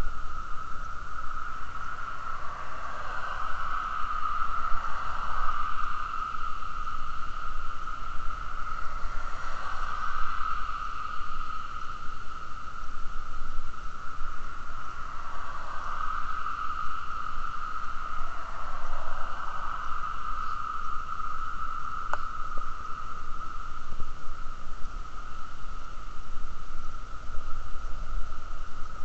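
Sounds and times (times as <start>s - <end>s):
constant hum: 0.0s - 29.0s
wind on camera: 0.0s - 29.0s.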